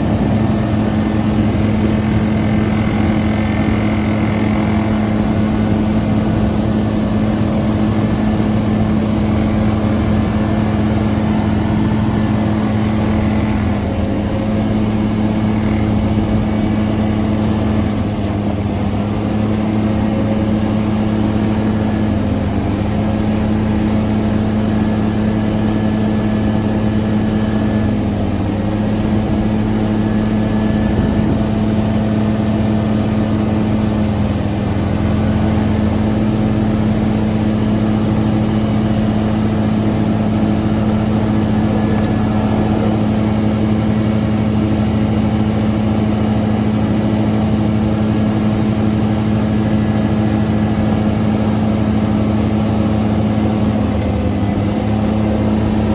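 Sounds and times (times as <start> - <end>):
excavator engine and hydraulics humming: 0.0 - 55.9.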